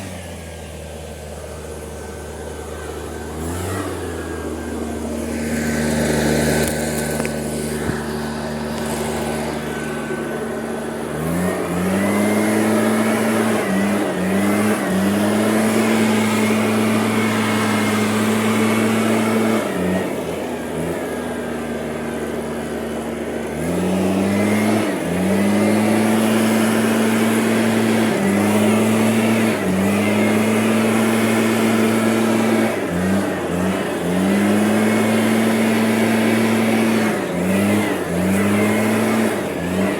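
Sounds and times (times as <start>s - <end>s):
vehicle engine idling and revving: 0.0s - 39.9s.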